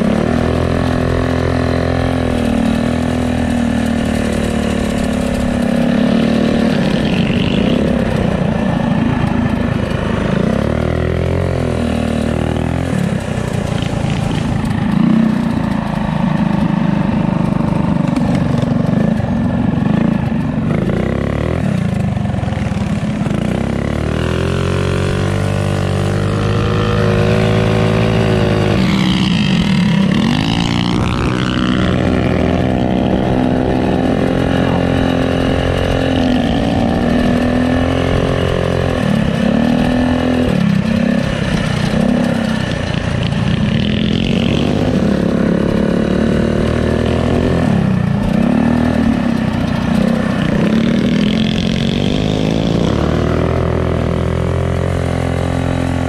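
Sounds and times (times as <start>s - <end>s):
mini bike engine revving: 0.0s - 56.0s.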